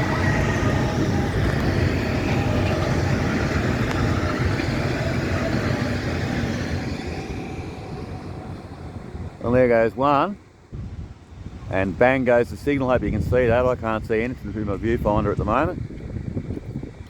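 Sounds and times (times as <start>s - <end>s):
faint whining tones: 0.0s - 17.0s
train wheels rumbling on rails: 0.0s - 17.0s.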